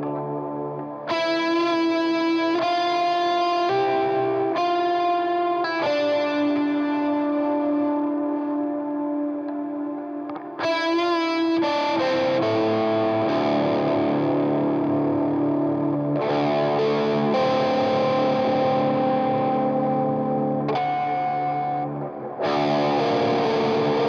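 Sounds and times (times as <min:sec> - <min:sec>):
distorted electric guitar: 0:00.0 - 0:24.0
guitar chords ringing: 0:00.0 - 0:24.0.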